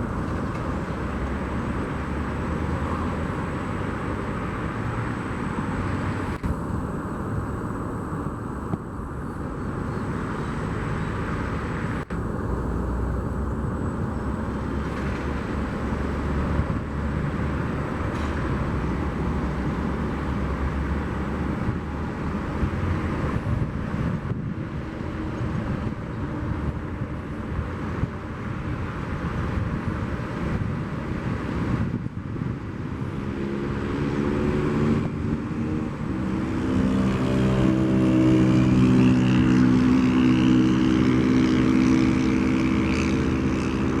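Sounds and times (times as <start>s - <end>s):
jet engine rumble: 0.0s - 44.0s.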